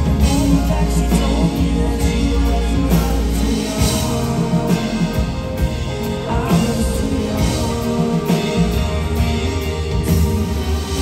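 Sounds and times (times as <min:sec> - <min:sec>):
acoustic guitar: 0:00.0 - 0:11.0
keyboard: 0:00.0 - 0:11.0
man singing: 0:00.0 - 0:11.0.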